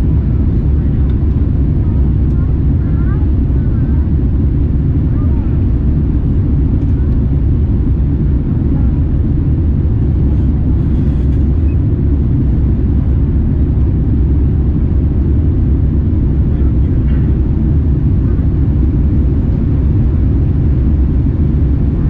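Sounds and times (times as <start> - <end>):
airliner cabin low rumble: 0.0 - 22.0.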